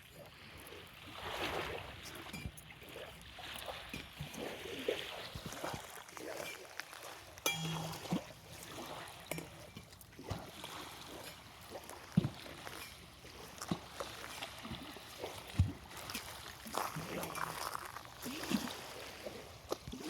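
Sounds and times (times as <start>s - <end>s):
small waves lapping on shore: 0.0s - 20.0s.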